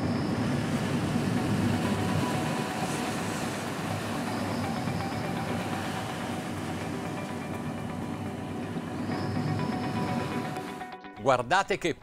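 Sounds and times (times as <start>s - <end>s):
hull rushing through water: 0.0s - 10.3s
diesel engines droning: 0.0s - 11.0s.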